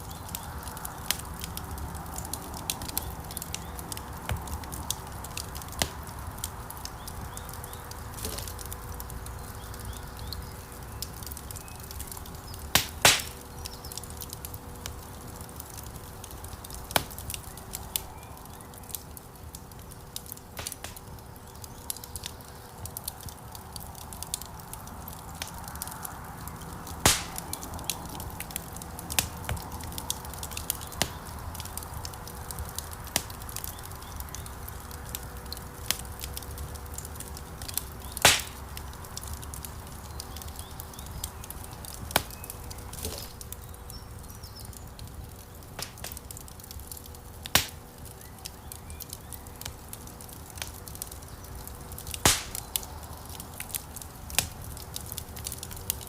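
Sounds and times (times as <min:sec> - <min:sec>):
burning wood popping: 0:00.0 - 0:56.0
fire crackling: 0:00.0 - 0:56.0
flames rumbling: 0:00.0 - 0:56.0.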